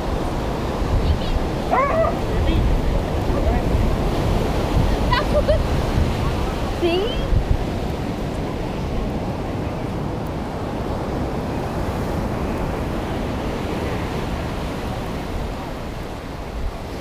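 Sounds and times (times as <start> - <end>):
ocean surf washing onto beach: 0.0 - 17.0
wind on microphone: 0.0 - 17.0.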